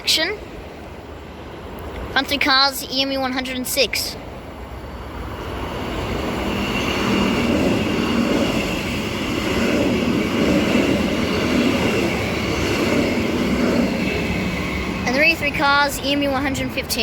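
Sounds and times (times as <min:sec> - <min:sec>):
train high whine: 0:00.0 - 0:17.0
train wheels rumbling on rails: 0:00.0 - 0:17.0.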